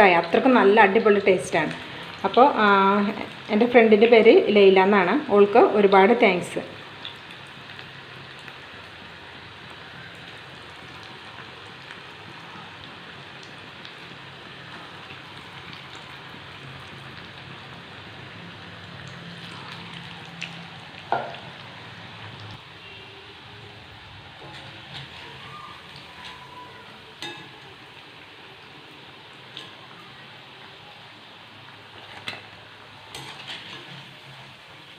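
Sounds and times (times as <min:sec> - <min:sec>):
food sizzling in hot oil: 0:00.0 - 0:34.9.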